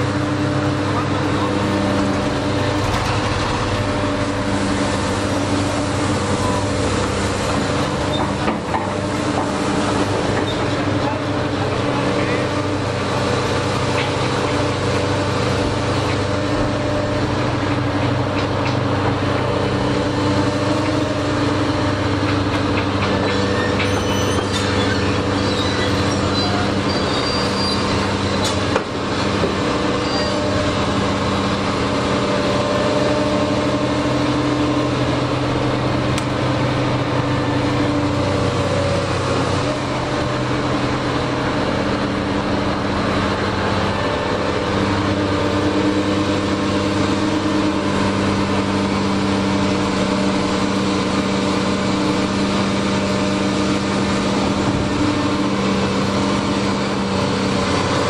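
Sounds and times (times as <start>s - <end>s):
excavator diesel engine under load: 0.0s - 58.0s.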